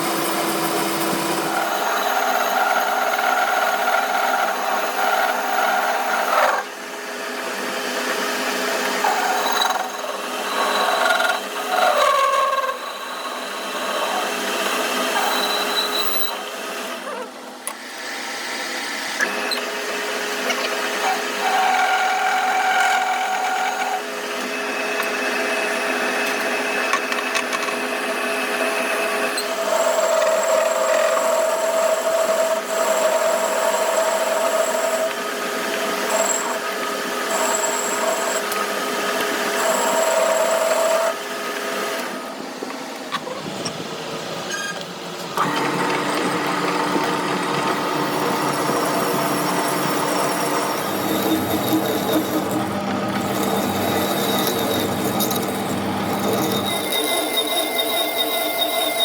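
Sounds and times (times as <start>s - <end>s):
power tool machining metal: 0.0s - 42.2s, 45.4s - 59.0s.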